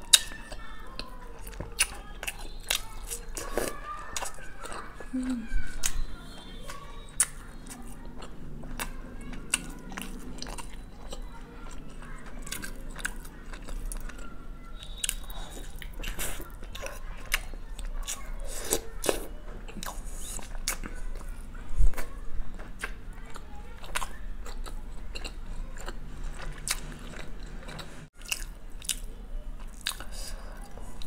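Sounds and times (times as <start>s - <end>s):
chewing and biting food: 0.0s - 31.0s.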